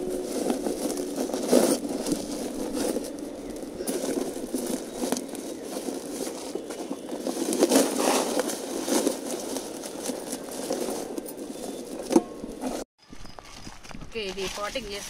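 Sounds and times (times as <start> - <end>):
soil crackling and rustling: 0.0 - 15.0.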